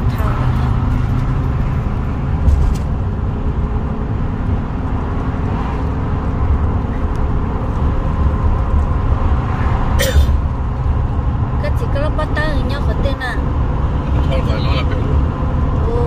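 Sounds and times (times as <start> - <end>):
low rumble of moving vehicle: 0.0 - 16.0.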